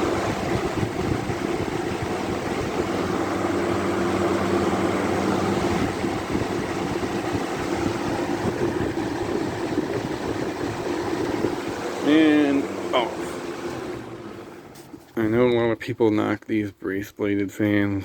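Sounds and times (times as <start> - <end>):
fan motor hum: 0.0 - 16.2
box fans blowing air: 0.0 - 16.3.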